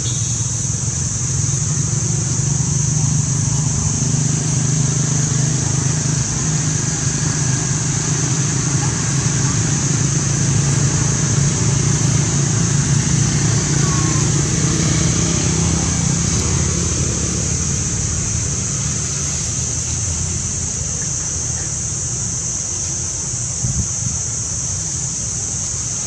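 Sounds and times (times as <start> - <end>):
high-pitched hiss: 0.0 - 26.0
vehicle engine humming: 0.0 - 26.0.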